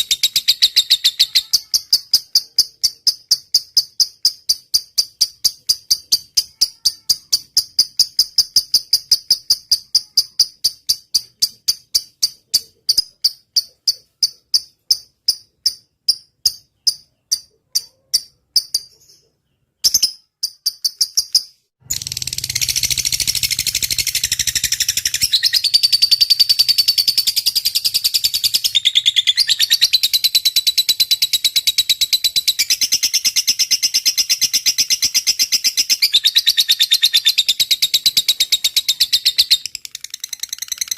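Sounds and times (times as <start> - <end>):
lovebird chattering trill: 0.0 - 40.9
sharp high chirps: 0.0 - 40.9.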